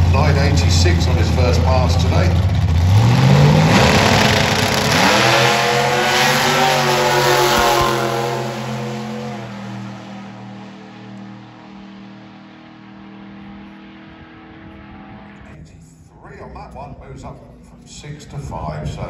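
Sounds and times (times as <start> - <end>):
drag racing car accelerating: 0.0 - 15.6.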